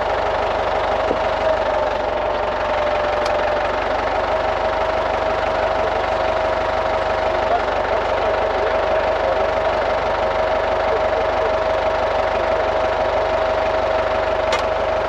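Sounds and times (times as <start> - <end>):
engine running steadily: 0.0 - 15.0
steady high whine: 0.0 - 15.0.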